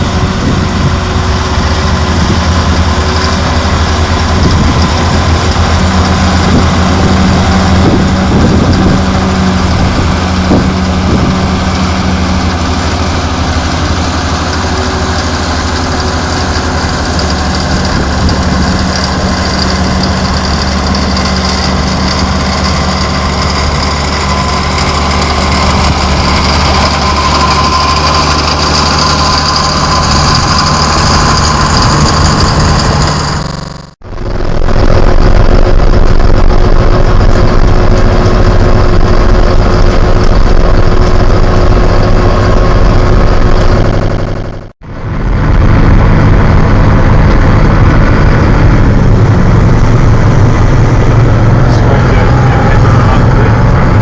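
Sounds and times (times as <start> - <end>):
high whining note: 0.0 - 54.0
tractor diesel engine running: 0.0 - 54.0.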